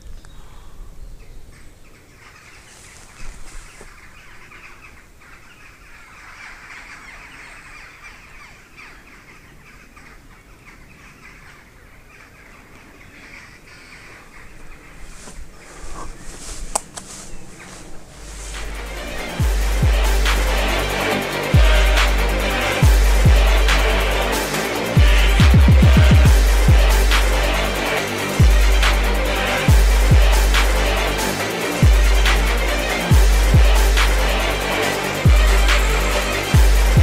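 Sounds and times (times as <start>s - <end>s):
birds calling: 0.0s - 37.0s
crows cawing: 1.5s - 37.0s.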